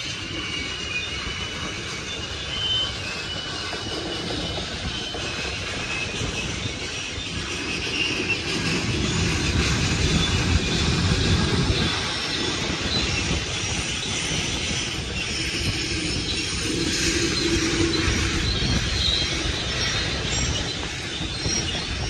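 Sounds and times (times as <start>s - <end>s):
faint high wheel squeal: 0.0s - 22.0s
steel wheels rumbling and clacking: 0.0s - 22.0s.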